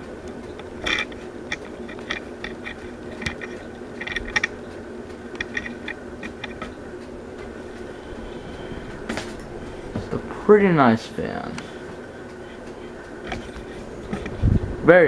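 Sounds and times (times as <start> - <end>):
light clicks and ticks: 0.0 - 10.4, 11.5 - 14.6
ceiling fan humming: 0.0 - 15.0.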